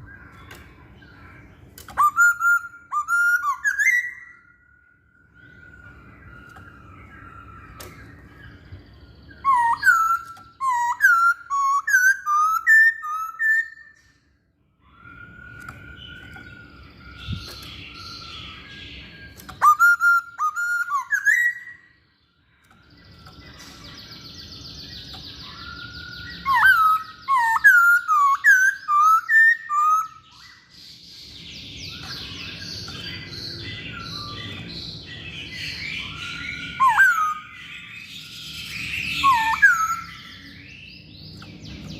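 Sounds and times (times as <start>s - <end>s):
bird singing whistled notes: 0.0s - 41.9s.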